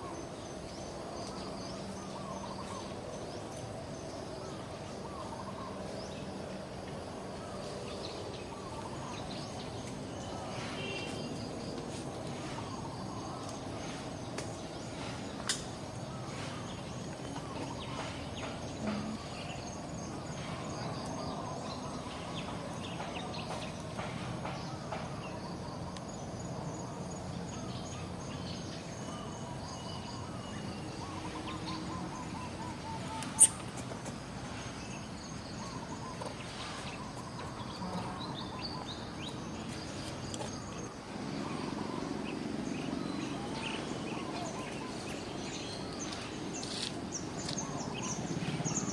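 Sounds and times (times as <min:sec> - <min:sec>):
steady background hiss: 0:00.0 - 0:48.9
faint chirping calls: 0:07.2 - 0:48.9.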